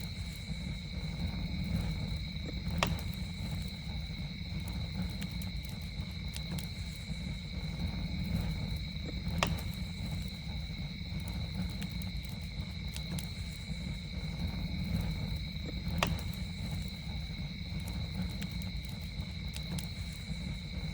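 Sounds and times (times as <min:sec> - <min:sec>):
campfire crackling: 0:00.0 - 0:20.9
insects trilling: 0:00.0 - 0:20.9
low fire rumble: 0:00.0 - 0:20.9
sharp fire pops: 0:01.0 - 0:06.9, 0:07.5 - 0:20.9.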